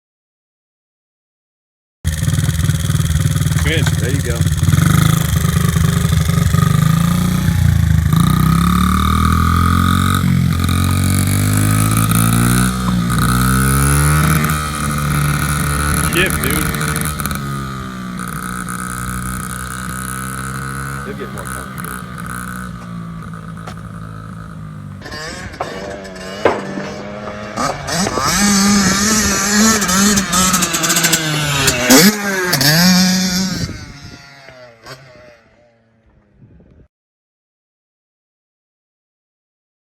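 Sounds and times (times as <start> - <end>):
dirt bike engine accelerating: 2.1 - 36.3.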